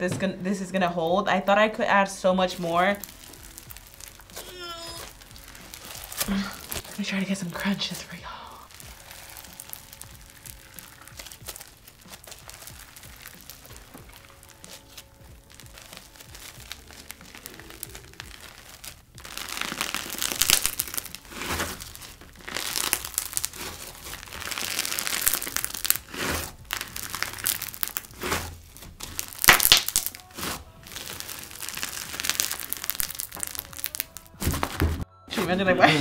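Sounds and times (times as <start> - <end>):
slime crackling and crunching: 2.2 - 35.1.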